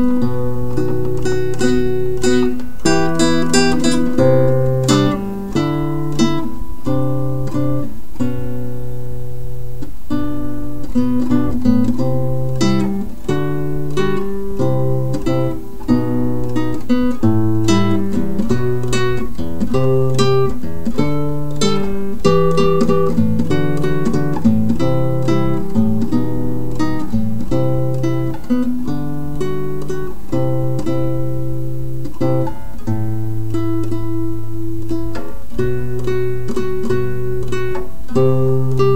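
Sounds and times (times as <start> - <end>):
acoustic guitar plucked notes: 0.0 - 38.9.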